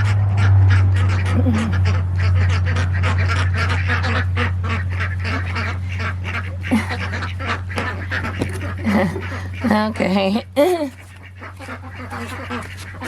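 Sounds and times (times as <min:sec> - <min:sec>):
ducks quacking: 0:00.0 - 0:13.0
steady low hum: 0:00.0 - 0:13.0.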